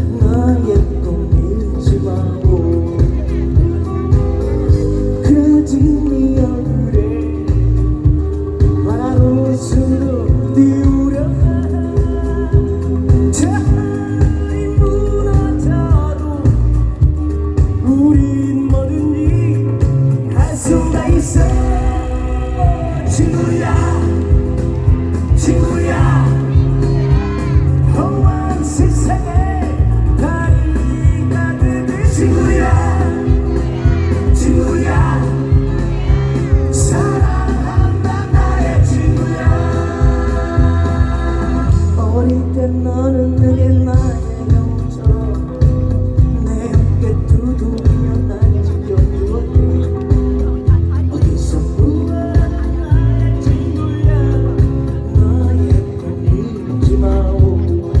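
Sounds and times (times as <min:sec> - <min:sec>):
man singing: 0:00.0 - 0:58.0
pop backing music with beat: 0:00.0 - 0:58.0.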